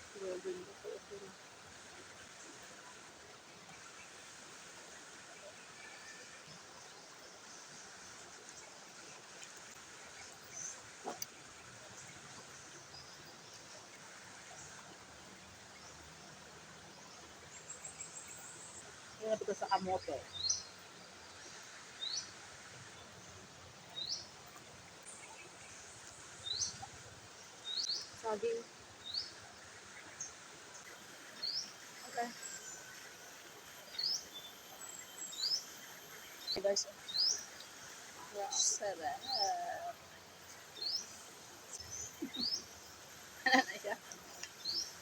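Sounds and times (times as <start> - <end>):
outdoor background noise: 0.0 - 45.0
river flowing: 0.0 - 45.0.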